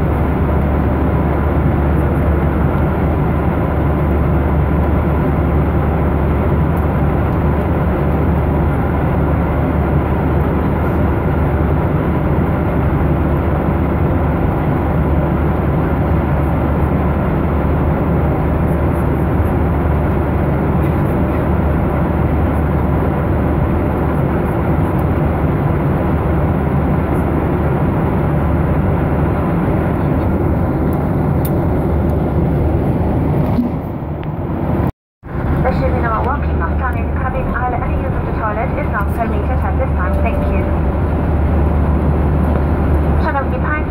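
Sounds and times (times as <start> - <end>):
airliner cabin engine rush: 0.0 - 43.9.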